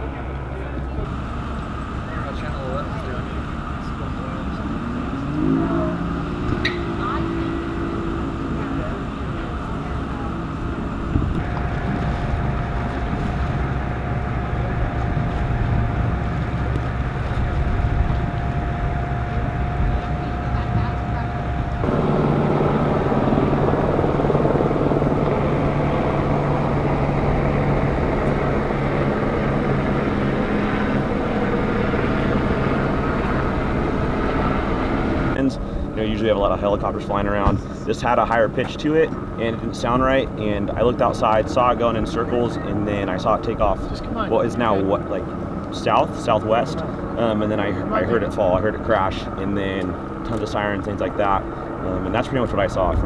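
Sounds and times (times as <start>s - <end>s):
engine humming: 0.0s - 53.0s
thin steady whine: 0.0s - 53.0s.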